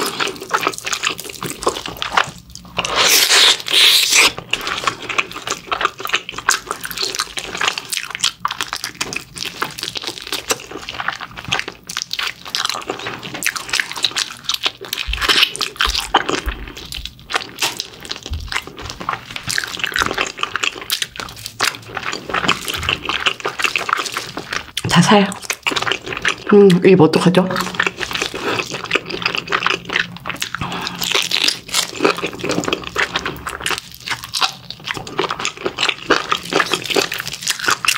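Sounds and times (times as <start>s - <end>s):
wet chewing and lip-smacking: 0.0s - 26.8s, 27.4s - 37.9s.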